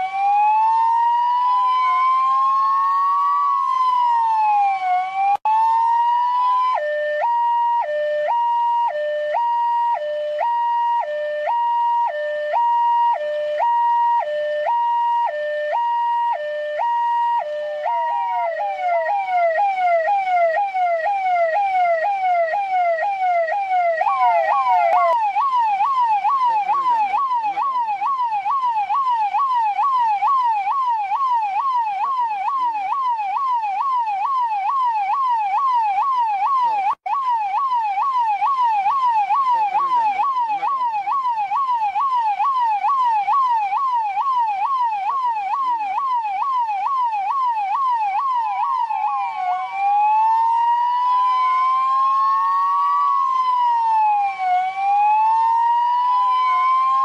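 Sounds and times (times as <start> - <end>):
police siren yelping: 0.0 - 57.0.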